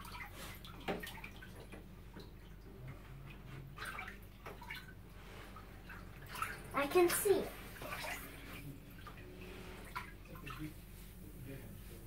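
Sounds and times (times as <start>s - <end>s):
bathwater splashes and drips: 0.0s - 11.1s
low steady hum: 0.0s - 12.0s.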